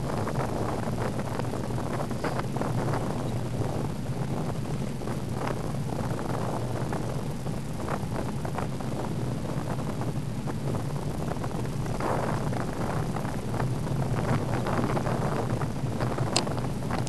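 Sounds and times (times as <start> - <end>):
bicycle rolling rumble: 0.0 - 17.0
wind rushing over microphone: 0.0 - 17.0.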